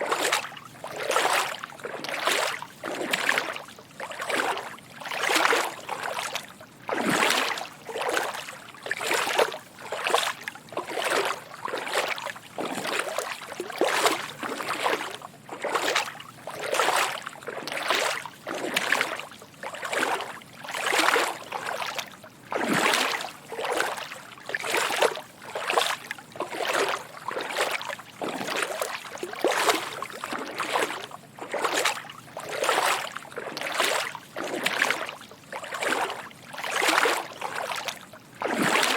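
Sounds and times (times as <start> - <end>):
footsteps wading through water: 0.0 - 38.9.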